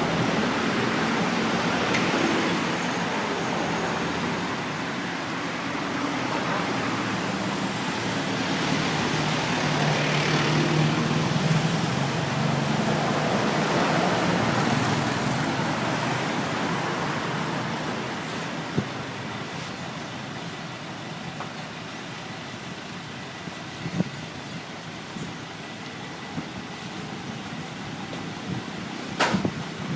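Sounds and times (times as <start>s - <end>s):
road traffic noise: 0.0s - 29.9s.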